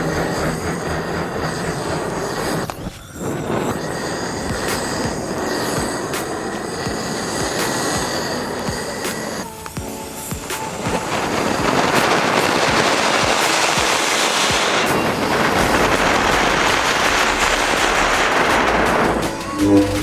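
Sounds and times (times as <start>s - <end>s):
firework fountain crackling hiss: 0.0s - 20.0s.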